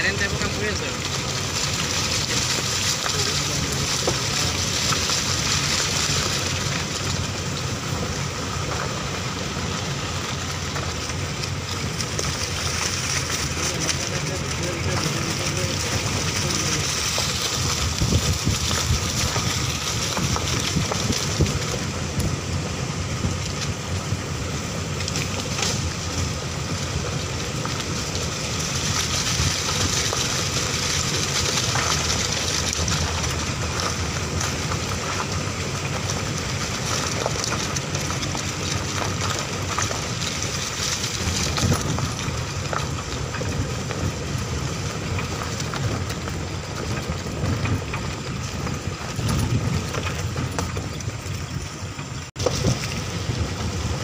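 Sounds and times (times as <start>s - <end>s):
vehicle engine running: 0.0s - 54.0s
wind noise on microphone: 0.0s - 54.0s.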